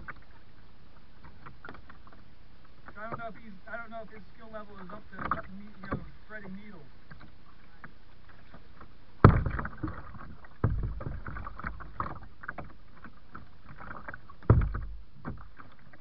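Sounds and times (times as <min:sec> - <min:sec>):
kayak paddle splashing: 0:00.0 - 0:16.0.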